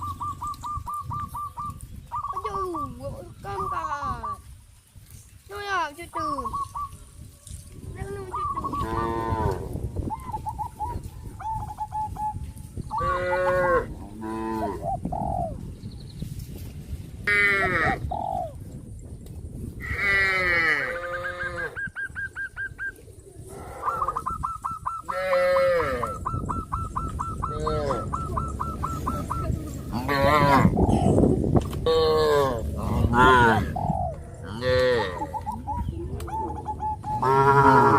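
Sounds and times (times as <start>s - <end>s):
farmyard animals calling: 0.0s - 4.5s, 5.6s - 15.7s, 17.2s - 18.6s, 19.8s - 37.9s.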